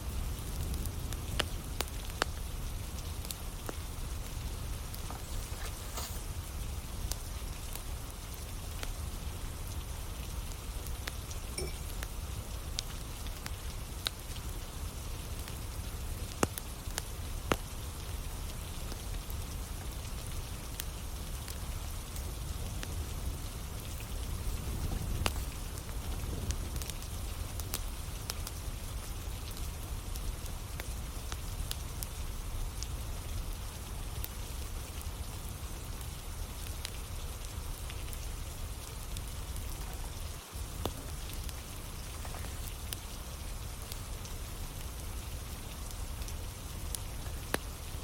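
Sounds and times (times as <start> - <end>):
campfire crackling: 0.0 - 48.0
steady rain falling: 0.0 - 48.0.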